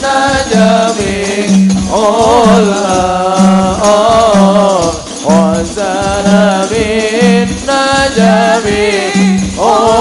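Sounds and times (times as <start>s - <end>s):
frame drums beating: 0.0s - 10.0s
person singing: 0.0s - 10.0s.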